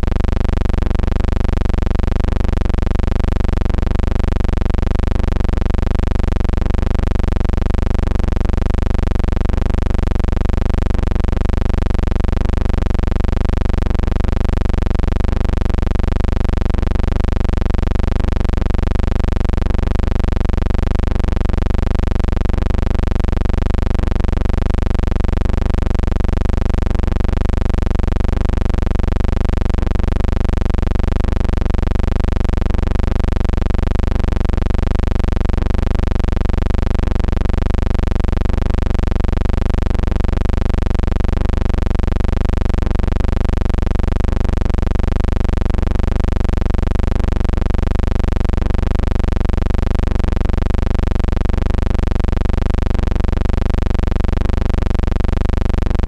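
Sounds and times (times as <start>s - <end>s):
buzzing hum: 0.0s - 46.9s, 47.6s - 47.9s, 48.5s - 55.0s, 55.6s - 56.0s.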